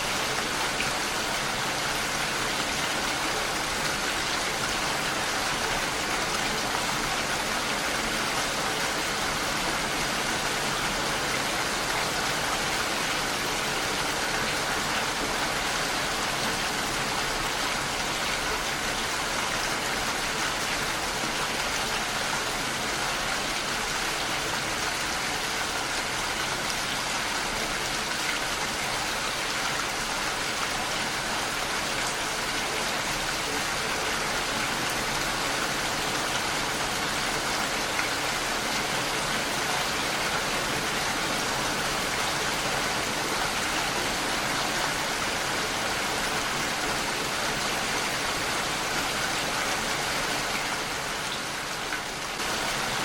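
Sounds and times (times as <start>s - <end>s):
heavy rain on a window: 0.0s - 53.0s.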